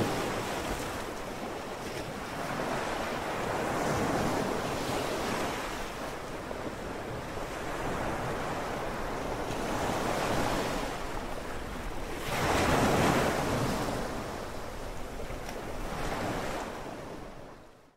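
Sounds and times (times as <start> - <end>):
sea waves washing in: 0.0 - 17.6
wind: 0.0 - 17.9.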